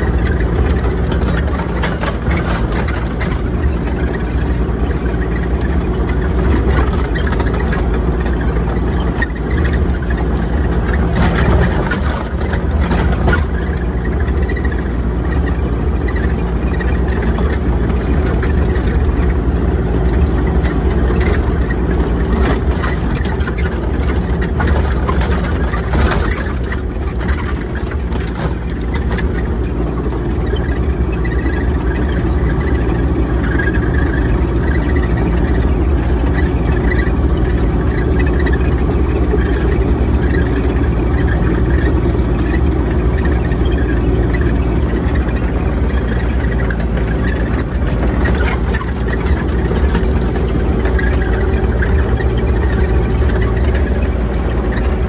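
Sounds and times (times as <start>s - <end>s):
clicks and rattles: 0.0s - 55.0s
diesel engine running: 0.0s - 55.0s.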